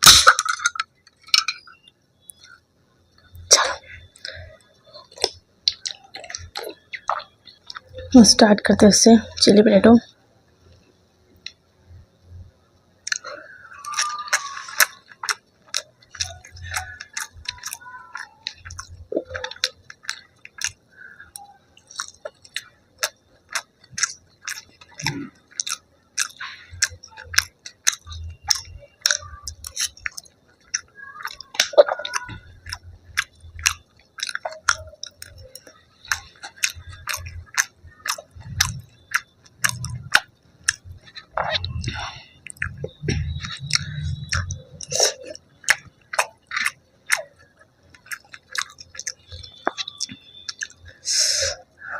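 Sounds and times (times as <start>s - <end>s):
crunchy food chewing: 0.0s - 8.4s, 12.3s - 51.9s
wet mouth sounds: 3.4s - 8.1s, 13.0s - 51.9s.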